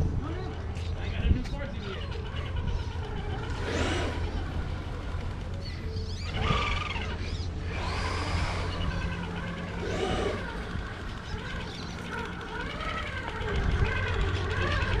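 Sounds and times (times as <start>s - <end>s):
toy car electric motor whining: 2.5s - 15.0s.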